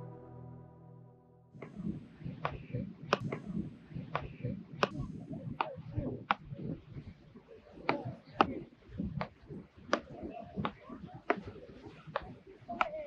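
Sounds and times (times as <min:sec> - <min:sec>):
low beach background: 0:00.0 - 0:13.0.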